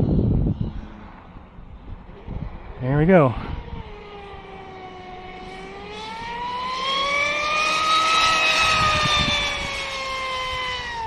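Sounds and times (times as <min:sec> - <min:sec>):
electric motor whine: 0:02.0 - 0:11.0.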